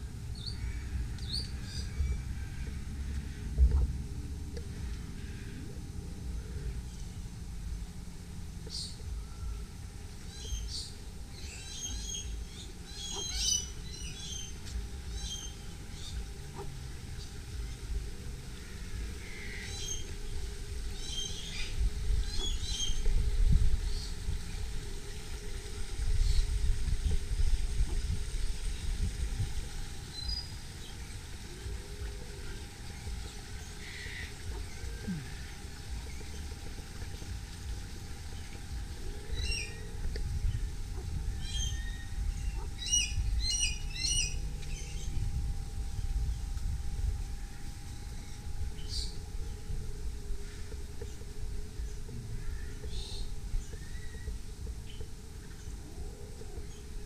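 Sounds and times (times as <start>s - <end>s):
birds chirping: 0.0s - 57.0s
low rumble on the microphone: 0.0s - 57.0s.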